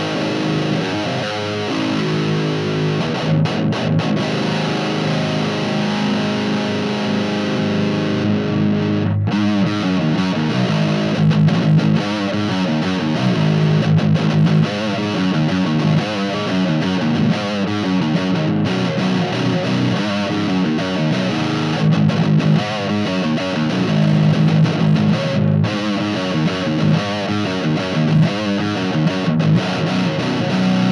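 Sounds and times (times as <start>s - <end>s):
distorted electric guitar: 0.0s - 30.9s.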